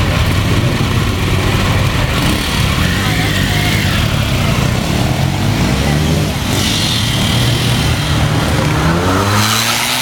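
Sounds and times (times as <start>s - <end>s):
motorcycle engines pulling away: 0.0s - 10.0s.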